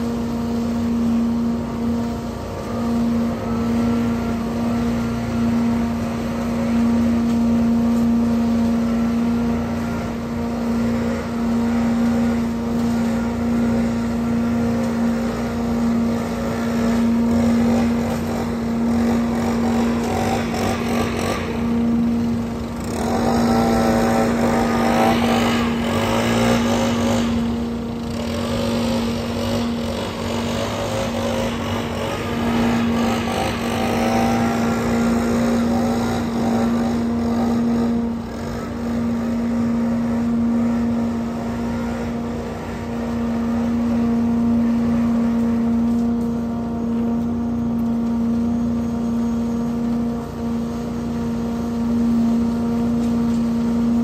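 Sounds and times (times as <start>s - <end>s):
leaf blower engine: 0.0s - 54.0s
leaf vacuum engine humming: 0.0s - 54.0s.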